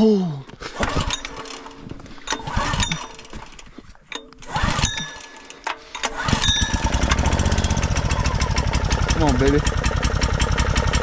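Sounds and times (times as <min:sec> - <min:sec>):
engine starting and running: 0:00.5 - 0:11.0.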